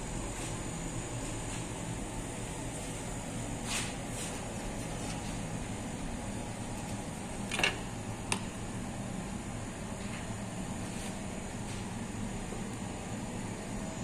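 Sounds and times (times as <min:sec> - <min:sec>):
bakery machine hum: 0:00.0 - 0:14.0.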